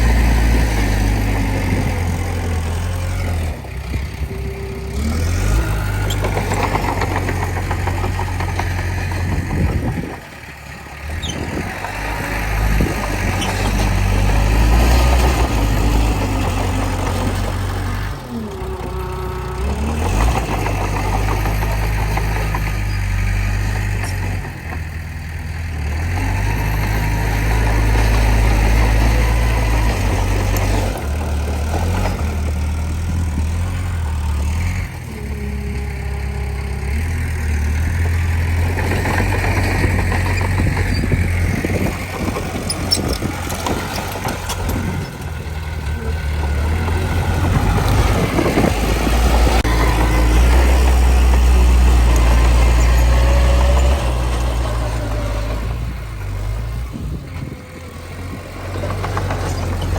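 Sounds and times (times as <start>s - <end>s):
bulldozer diesel engine working: 0.0s - 59.9s
clanks and rattles: 5.2s - 35.1s, 37.0s - 55.6s, 57.2s - 59.9s.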